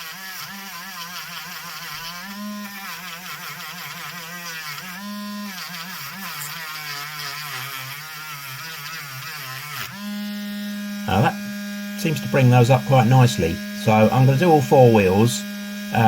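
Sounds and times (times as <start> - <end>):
rotary tool wire brush whirring: 0.0 - 16.0.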